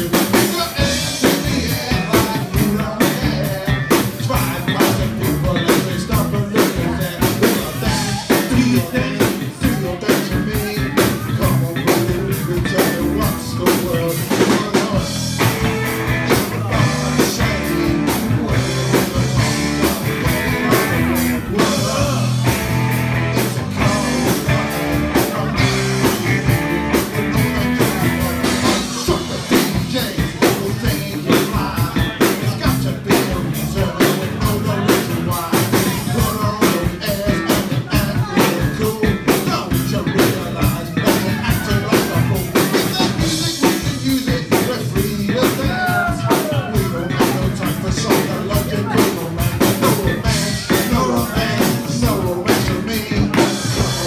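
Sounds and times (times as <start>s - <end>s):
drum kit beat: 0.0s - 54.0s
guitar: 0.0s - 54.0s.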